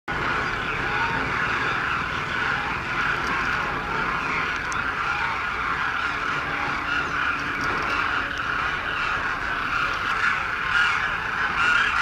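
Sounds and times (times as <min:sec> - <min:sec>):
flock of cranes calling: 0:00.1 - 0:12.0.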